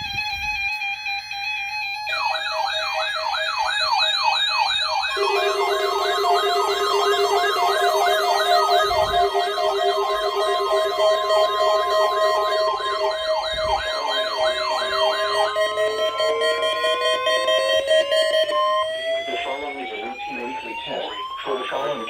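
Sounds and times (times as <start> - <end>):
electronic siren yelping: 0.0 - 22.0
steady siren tones: 0.0 - 22.0.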